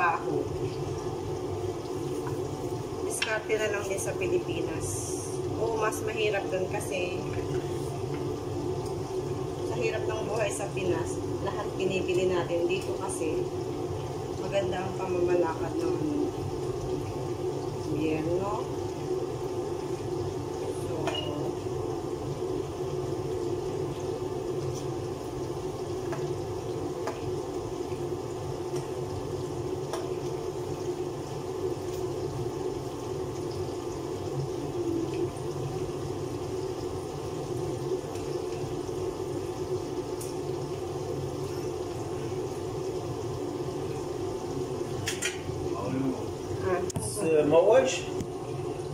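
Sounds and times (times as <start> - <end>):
food frying in oil: 0.0 - 48.9.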